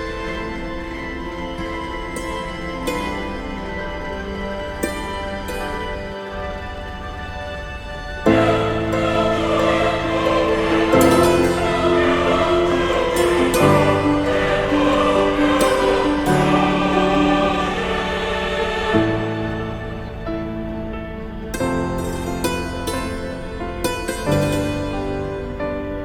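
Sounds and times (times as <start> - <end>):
choir singing sustained chords: 0.0 - 26.0.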